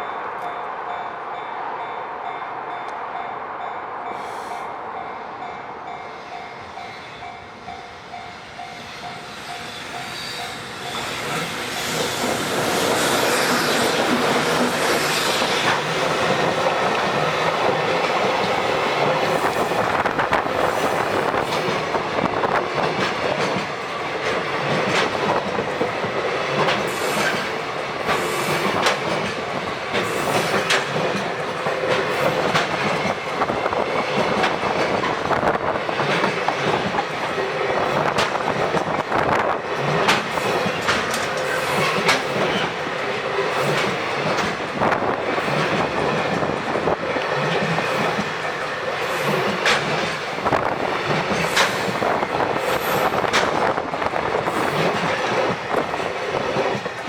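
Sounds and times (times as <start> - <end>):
freight train wheels clattering: 9.0 - 57.0.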